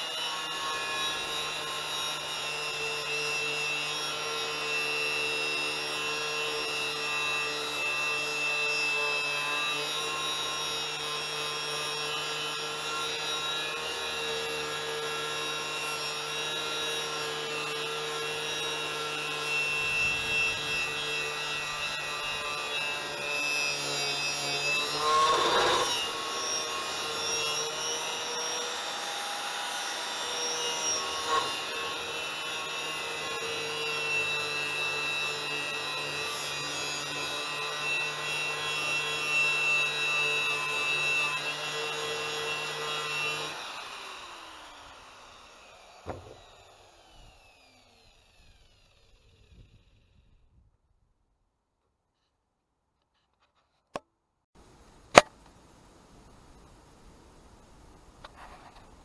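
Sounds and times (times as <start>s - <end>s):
power tool running: 0.0s - 50.4s.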